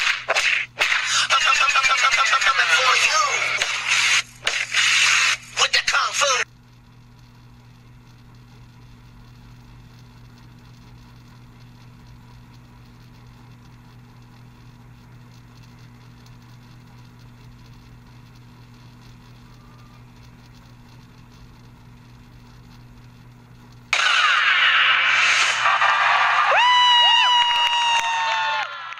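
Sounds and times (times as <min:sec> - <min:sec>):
steady low hum with hiss: 0:00.0 - 0:28.9.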